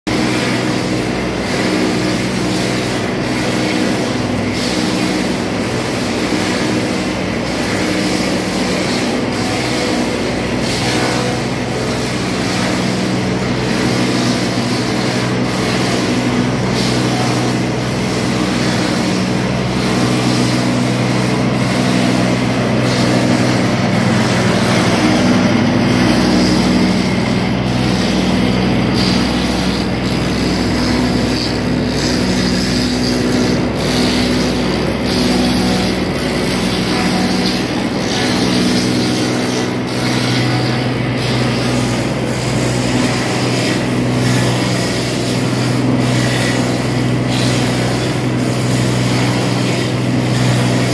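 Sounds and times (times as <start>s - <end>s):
machine mechanical hum: 0.1s - 50.9s.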